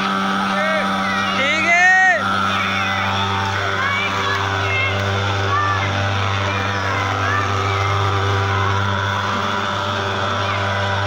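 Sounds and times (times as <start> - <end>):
fogging machine buzzing drone: 0.0 - 11.0.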